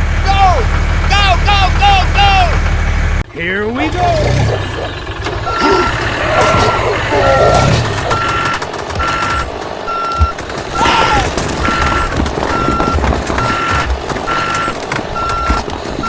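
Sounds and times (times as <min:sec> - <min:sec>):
low engine noise: 0:00.0 - 0:16.0
truck reversing alarm beeping: 0:00.7 - 0:16.0.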